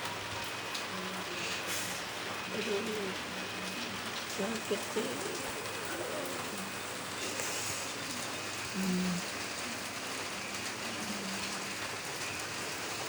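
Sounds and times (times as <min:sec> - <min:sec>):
steady rain pattering: 0:00.0 - 0:13.0.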